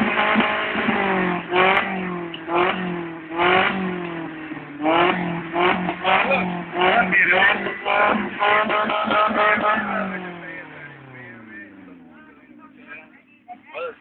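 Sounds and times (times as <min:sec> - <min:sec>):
car engine revving: 0:00.0 - 0:14.0
engine idling: 0:00.0 - 0:14.0.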